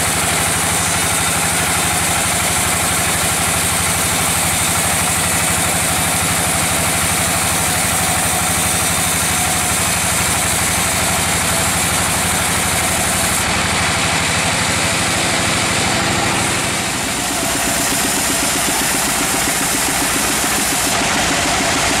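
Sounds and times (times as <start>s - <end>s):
band saw cutting log: 0.0s - 22.0s.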